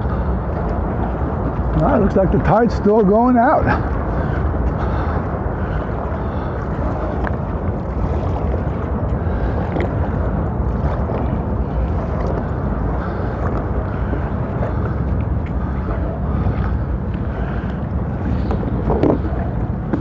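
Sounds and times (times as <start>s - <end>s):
water moving around kayak: 0.0s - 20.0s
wind on microphone: 0.0s - 20.0s.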